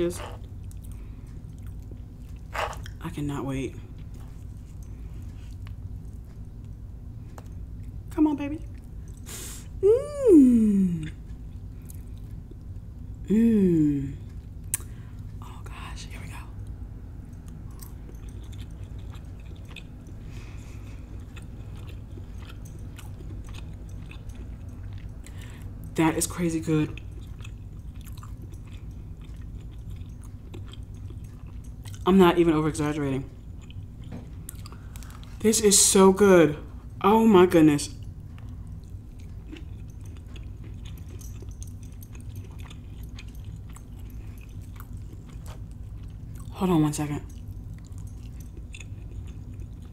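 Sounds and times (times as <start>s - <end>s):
person chewing: 0.0s - 3.0s, 3.8s - 8.0s, 8.6s - 35.4s, 38.0s - 46.6s, 47.2s - 49.9s
steady low hum: 0.0s - 49.9s.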